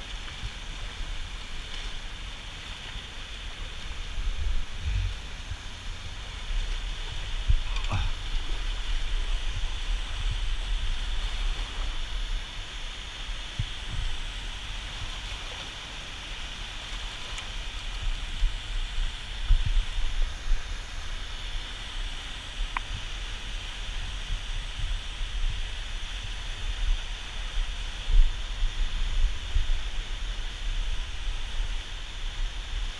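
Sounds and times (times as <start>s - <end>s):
water rushing through dam: 0.0s - 32.9s.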